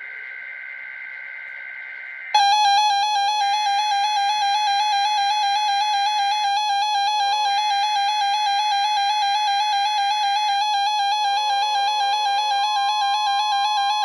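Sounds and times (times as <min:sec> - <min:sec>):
pulsing electronic alert tone: 0:02.4 - 0:14.0.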